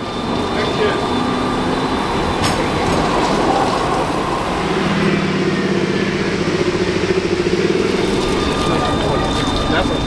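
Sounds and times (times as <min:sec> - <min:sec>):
low pulsing hum: 0:00.0 - 0:10.0
tram wheels rumbling on rail: 0:00.0 - 0:10.0.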